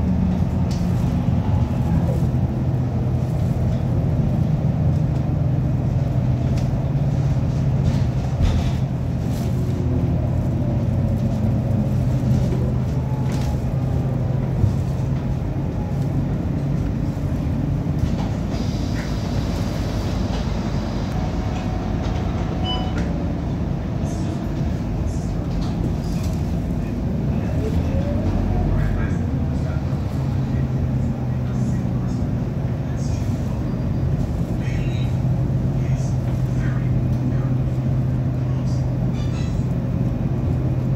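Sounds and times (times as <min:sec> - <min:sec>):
bus engine droning: 0:00.0 - 0:40.9.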